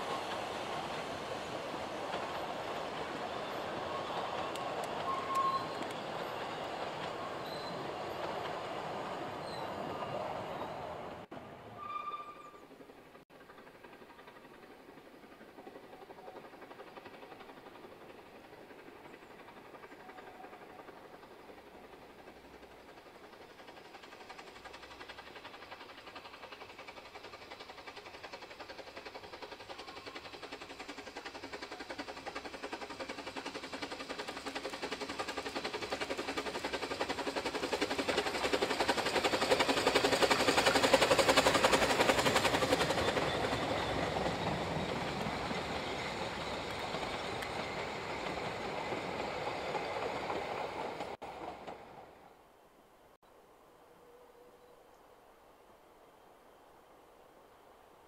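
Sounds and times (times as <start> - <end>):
steam locomotive exhaust beats: 0.0 - 52.0
train wheels on rails: 0.0 - 52.4.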